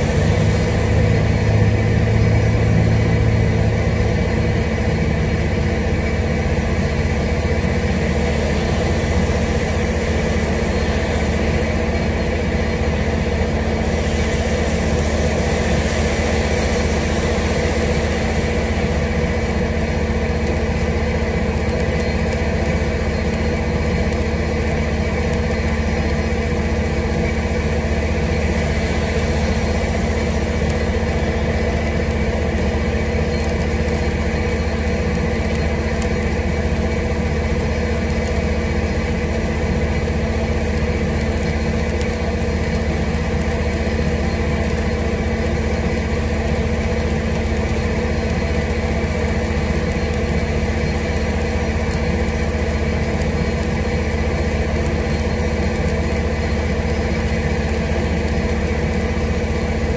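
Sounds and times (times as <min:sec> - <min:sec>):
constant low hum: 0:00.0 - 0:59.9
heavy rain falling: 0:00.0 - 0:59.9.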